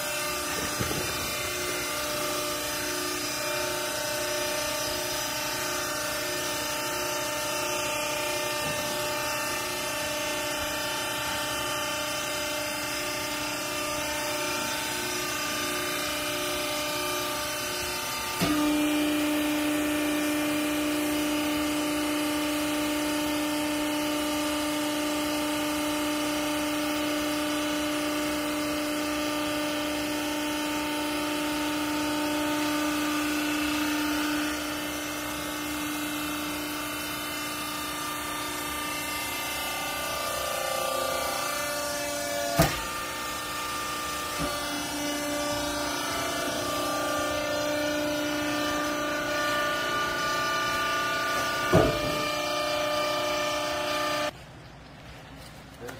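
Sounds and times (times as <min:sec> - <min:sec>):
hydraulic pump motor running: 0:00.0 - 0:54.4.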